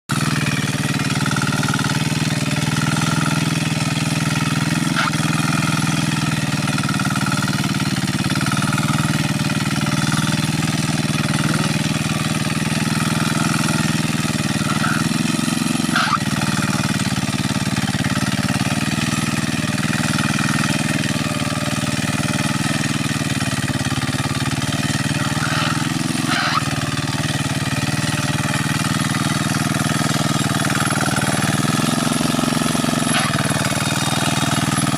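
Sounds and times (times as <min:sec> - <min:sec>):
hand tractor engine chugging: 0:00.1 - 0:34.9.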